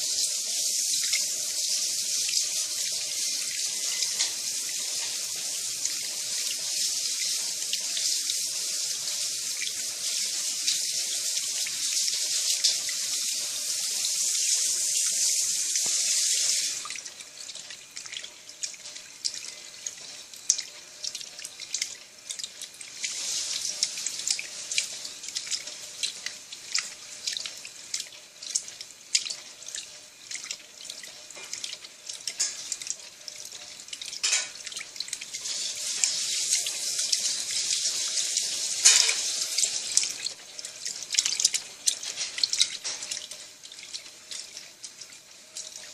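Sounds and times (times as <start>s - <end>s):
water rushing into washing machine: 0.0s - 45.9s
water splashing and dripping: 0.0s - 45.9s.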